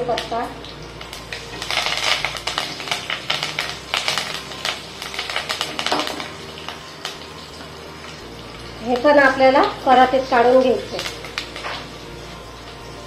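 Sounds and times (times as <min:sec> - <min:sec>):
leaves crackling in hot oil: 0:00.0 - 0:13.0.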